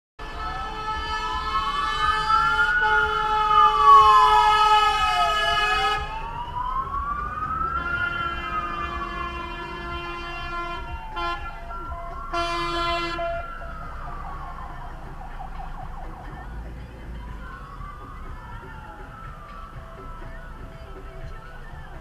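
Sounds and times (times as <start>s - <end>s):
fire engine siren wailing: 0.2s - 22.0s.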